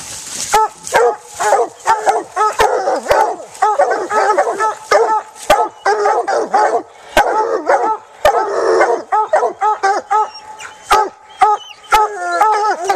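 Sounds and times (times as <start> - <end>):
dogs barking excitedly: 0.5 - 12.9.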